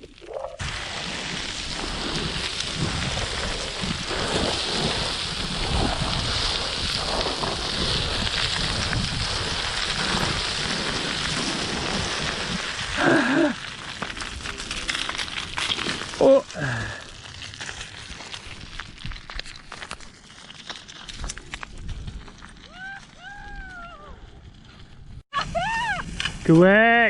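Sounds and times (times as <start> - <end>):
scree stones crunching underfoot: 0.0 - 27.0.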